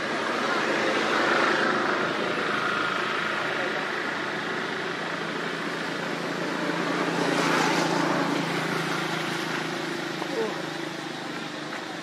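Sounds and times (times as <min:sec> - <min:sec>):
engine hum: 0:00.0 - 0:12.0
traffic noise: 0:00.0 - 0:12.0.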